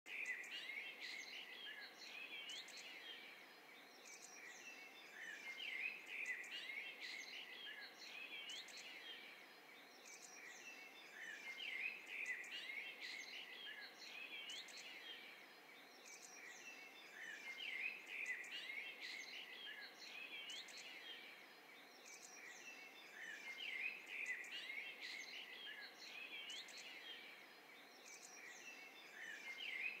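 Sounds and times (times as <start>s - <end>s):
songbirds chirping and warbling: 0.1s - 30.0s.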